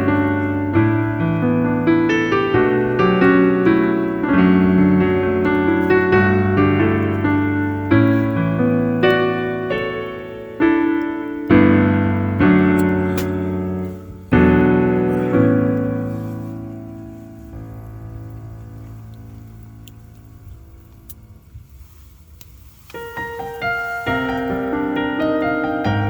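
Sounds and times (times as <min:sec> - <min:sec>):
piano playing slow chords: 0:00.0 - 0:26.0.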